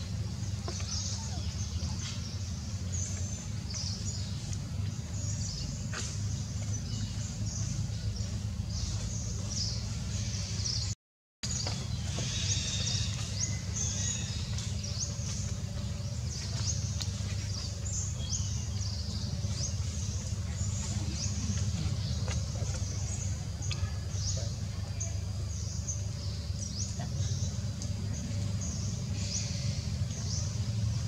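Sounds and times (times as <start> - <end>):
small birds chirping: 0.0 - 31.0
steady low hum: 0.0 - 31.0.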